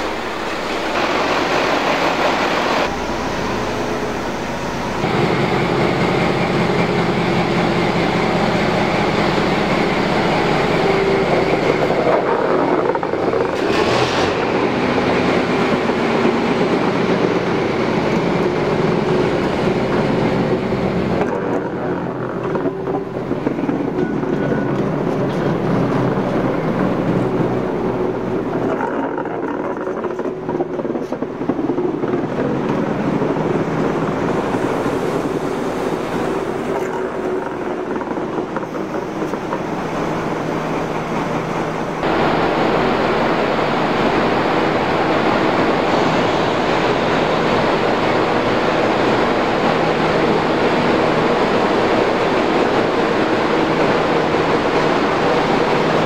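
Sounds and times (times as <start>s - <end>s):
train diesel engines running: 0.0s - 56.0s
train wheels on rails: 0.0s - 56.0s.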